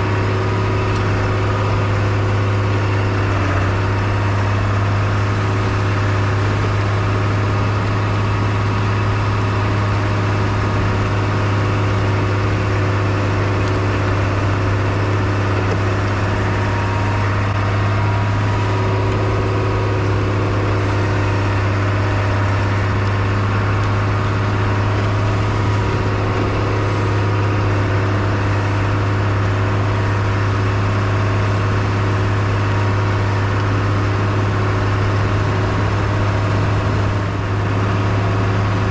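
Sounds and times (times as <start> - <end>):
snowcat engine droning: 0.0 - 38.9.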